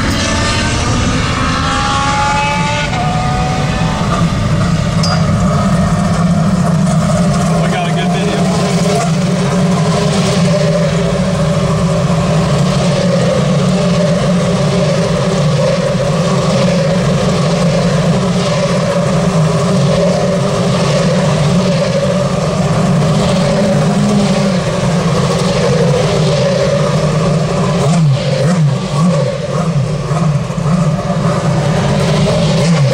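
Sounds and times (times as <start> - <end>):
car engine drone: 0.0 - 32.9
road noise: 0.0 - 32.9.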